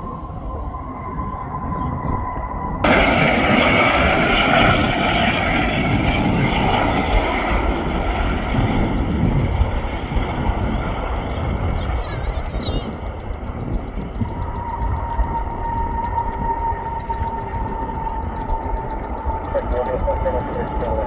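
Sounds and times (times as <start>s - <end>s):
jet engines with whine: 0.0s - 21.0s.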